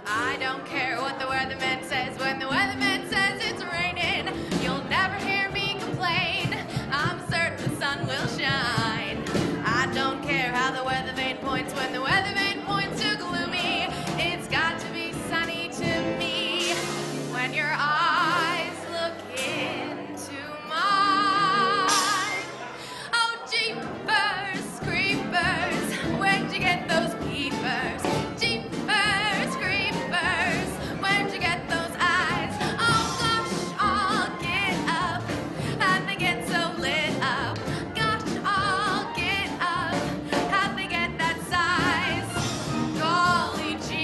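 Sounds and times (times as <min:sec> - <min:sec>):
big band playing swing music: 0:00.0 - 0:44.0.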